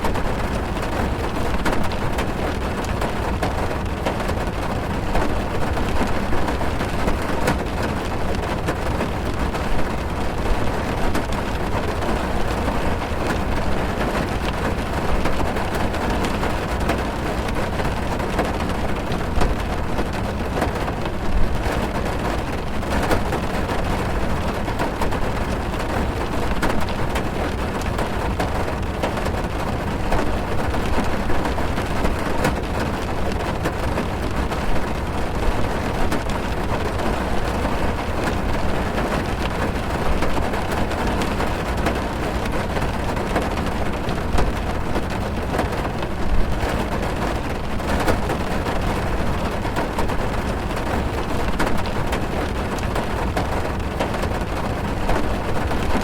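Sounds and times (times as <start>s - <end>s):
heavy rain drumming on car roof: 0.0s - 56.0s.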